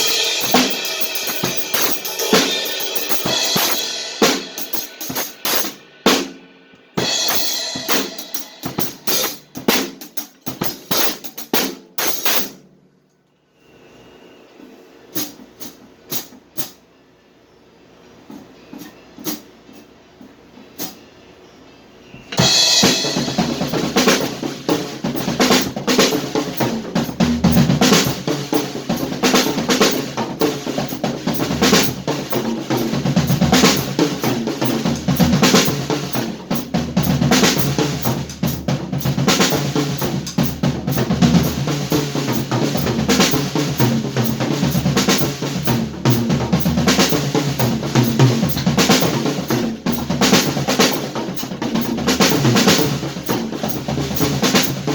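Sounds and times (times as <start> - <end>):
drum kit groove: 0.0 - 12.7, 15.1 - 16.8, 18.2 - 21.1, 22.2 - 54.9.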